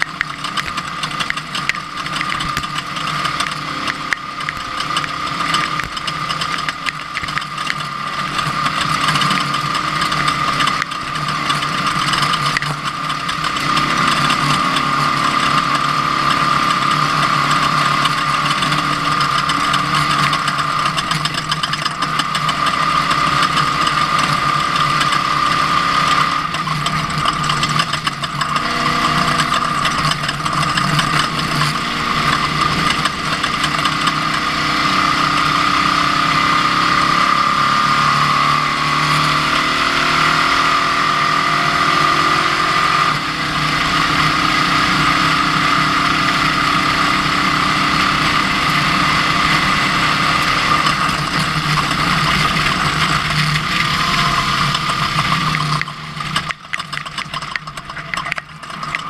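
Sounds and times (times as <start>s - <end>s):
constant rattle: 0.0s - 36.6s, 41.9s - 59.0s
high whine: 0.0s - 59.0s
truck engine revving: 0.0s - 59.0s.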